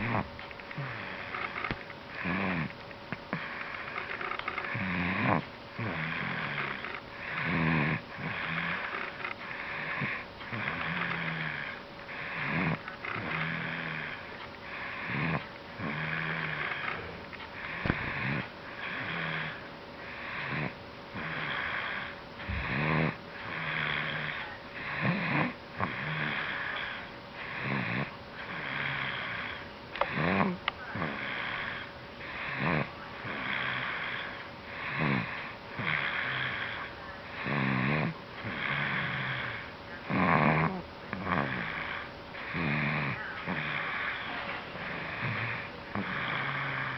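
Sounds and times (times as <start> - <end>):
person snoring: 0.0 - 46.9.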